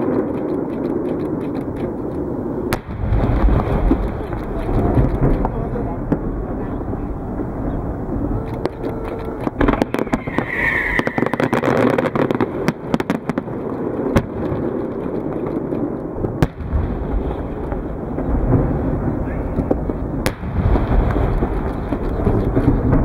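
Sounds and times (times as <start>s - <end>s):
fireworks bangs and crackles: 0.0s - 23.0s
fireworks rumble: 0.0s - 23.0s.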